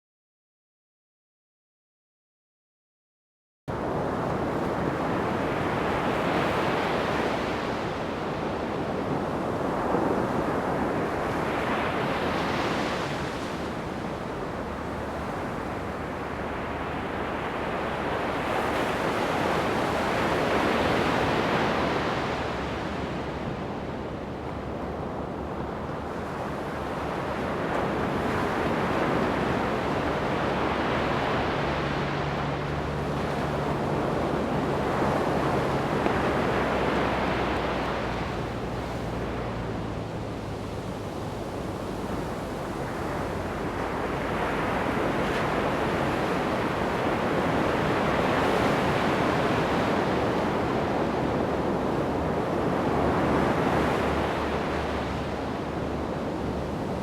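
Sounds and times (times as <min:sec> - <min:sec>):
ocean surf breaking on beach: 0:03.7 - 0:57.0.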